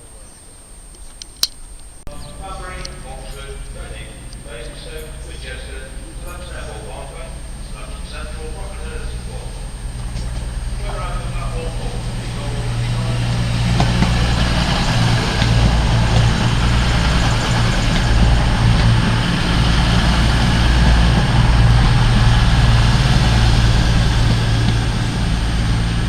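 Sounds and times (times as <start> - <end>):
train diesel engine rumbling: 0.0 - 26.0.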